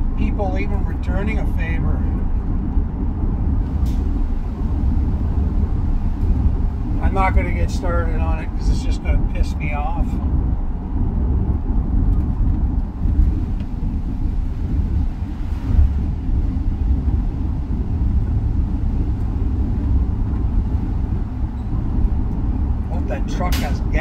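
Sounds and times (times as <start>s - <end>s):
road rumble and engine hum: 0.0s - 24.0s.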